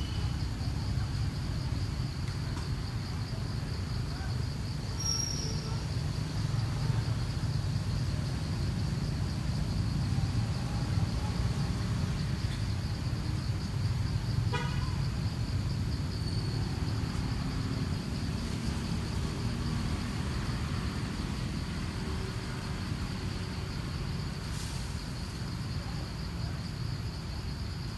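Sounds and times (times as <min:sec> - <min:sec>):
distant traffic rumble: 0:00.0 - 0:27.9
insects chirring: 0:00.0 - 0:27.9.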